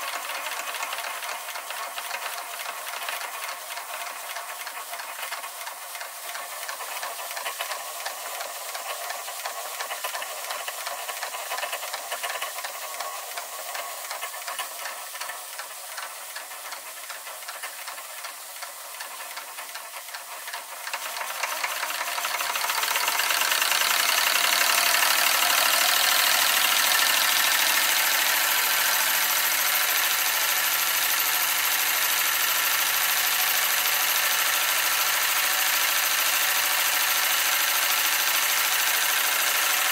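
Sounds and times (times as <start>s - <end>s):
steam engine mechanical clatter: 0.0s - 39.9s
steam hiss: 0.0s - 39.9s.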